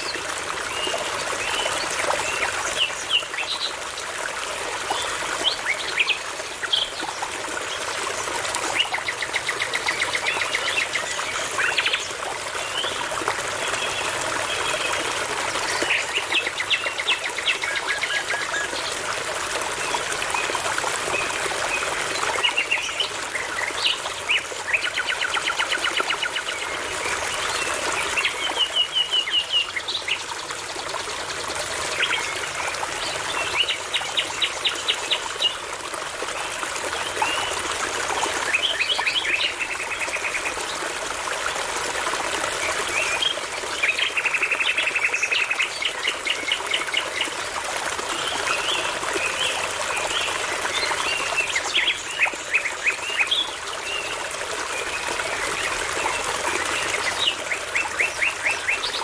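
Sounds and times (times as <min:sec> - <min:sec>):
babbling brook: 0:00.0 - 0:59.0.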